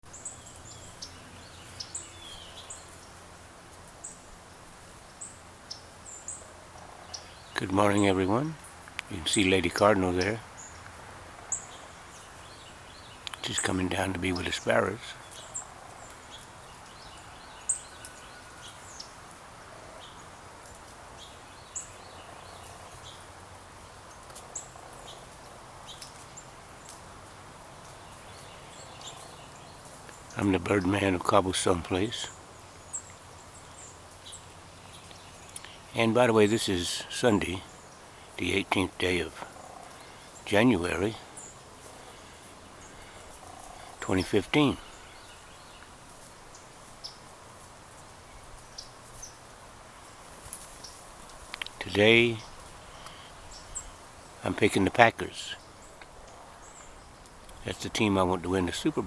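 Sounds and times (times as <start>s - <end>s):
faint outdoor hiss: 0.0s - 59.0s
small birds chirping: 0.0s - 59.0s
songbirds chip calls: 0.0s - 59.0s.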